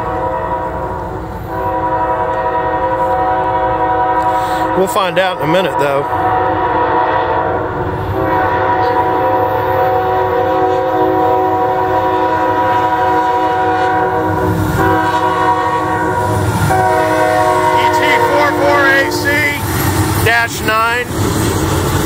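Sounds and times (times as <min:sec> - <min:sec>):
locomotive air horn: 0:00.0 - 0:19.6.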